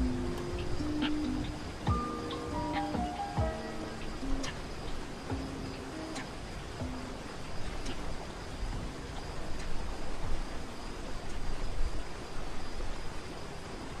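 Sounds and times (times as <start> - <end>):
high insect drone: 0.0 - 14.0
waterfall rushing: 0.0 - 14.0.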